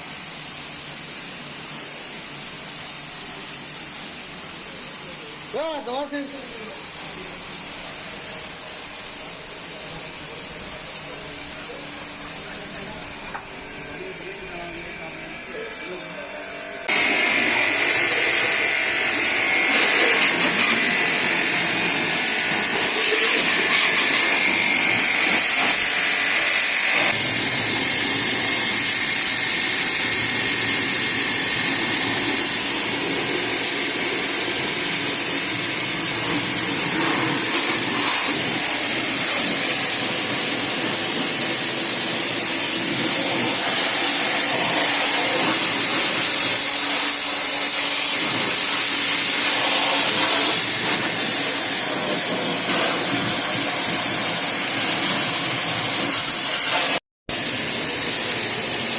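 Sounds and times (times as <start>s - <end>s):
pressure washer water jet hiss: 0.0s - 58.9s.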